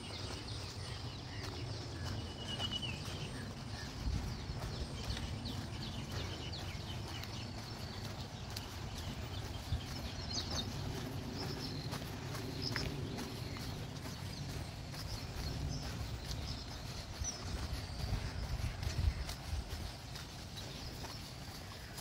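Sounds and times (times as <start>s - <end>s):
bird chirps: 0.0s - 22.0s
footsteps on dirt trail: 0.0s - 22.0s.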